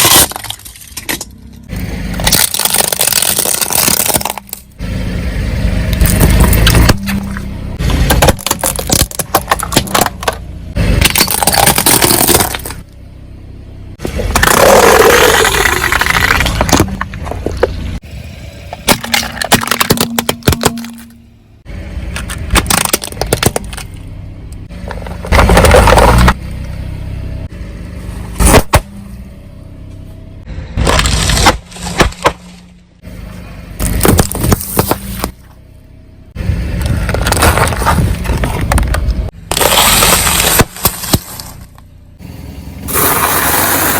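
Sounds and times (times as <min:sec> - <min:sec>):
objects crunching under tyres: 0:00.0 - 0:05.2, 0:05.8 - 0:18.0, 0:18.6 - 0:21.3, 0:21.9 - 0:36.0, 0:36.6 - 0:43.9.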